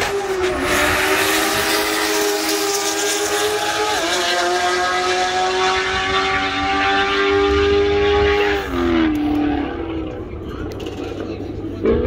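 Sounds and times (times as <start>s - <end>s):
race car engines at full throttle: 0.0s - 12.0s.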